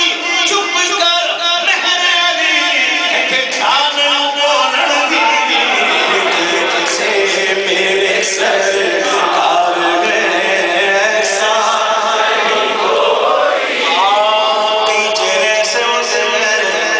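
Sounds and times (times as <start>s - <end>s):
men chanting devotional song: 0.0s - 16.9s.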